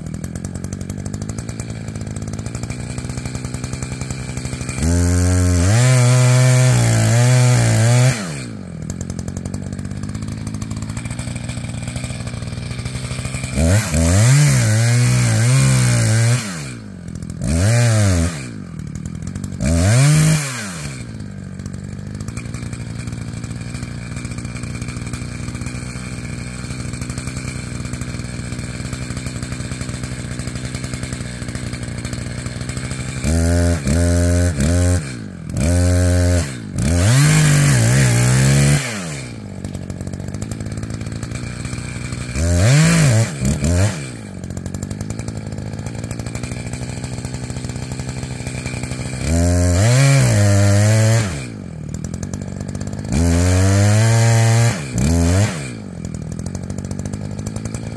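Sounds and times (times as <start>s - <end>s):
chainsaw cutting and idling: 0.0s - 57.9s.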